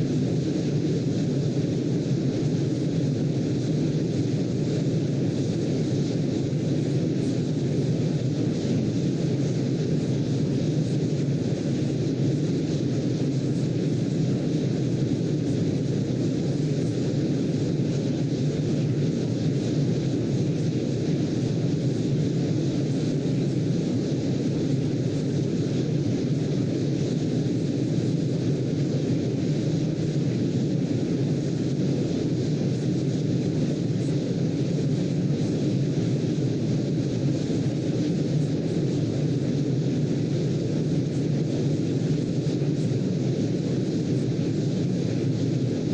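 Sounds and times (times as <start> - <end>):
steady low rumbling noise: 0.0 - 45.9.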